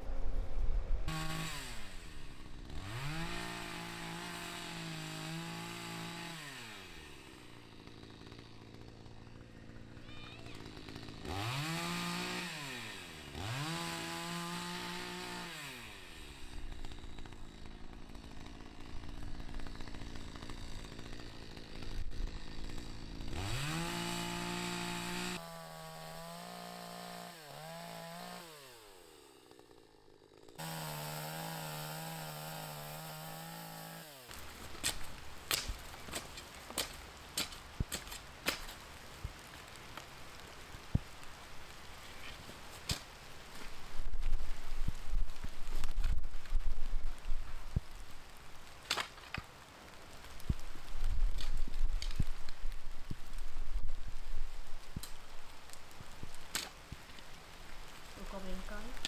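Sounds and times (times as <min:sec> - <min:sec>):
chainsaw cutting branches: 0:01.1 - 0:59.0.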